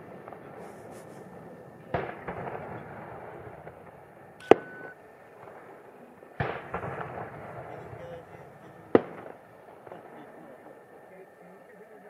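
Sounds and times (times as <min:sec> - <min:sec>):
fireworks crackling: 0:00.0 - 0:11.1
fireworks exploding: 0:00.0 - 0:11.1.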